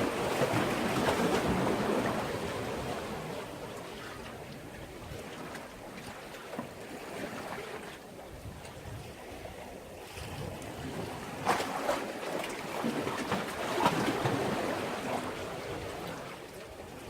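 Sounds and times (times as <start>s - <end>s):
sea waves splashing: 0.0s - 8.0s, 10.8s - 17.0s.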